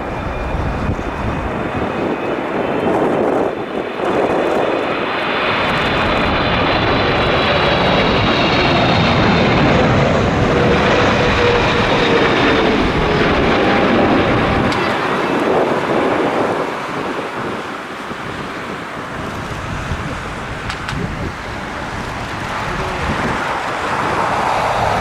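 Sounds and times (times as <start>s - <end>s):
jet airliner passing low: 0.0s - 25.0s.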